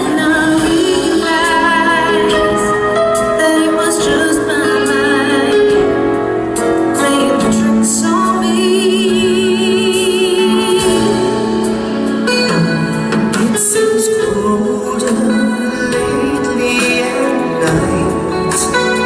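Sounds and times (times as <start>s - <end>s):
band and keyboard accompaniment: 0.0s - 19.0s.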